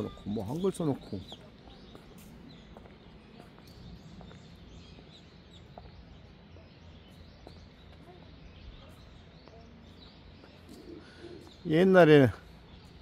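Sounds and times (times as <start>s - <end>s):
low steady background noise: 0.0s - 13.0s
small birds chirping: 0.0s - 13.0s.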